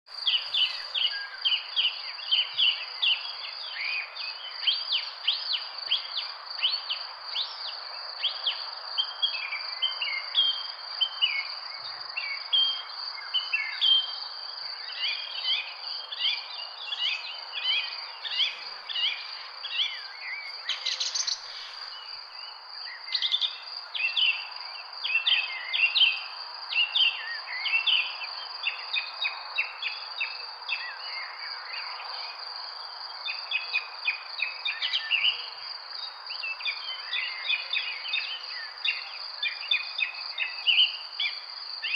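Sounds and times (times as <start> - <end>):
songbirds chirping: 0.1 - 41.9.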